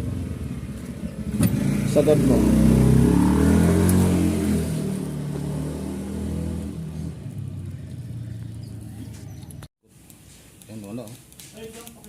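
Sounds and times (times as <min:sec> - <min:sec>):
vehicle engine winding down: 0:00.0 - 0:09.7.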